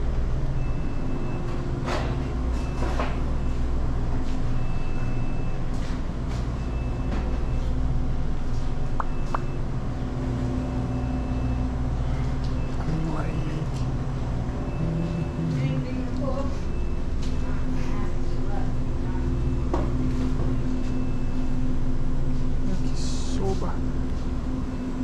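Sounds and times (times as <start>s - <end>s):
low hum of refrigerated coolers: 0.0s - 25.0s.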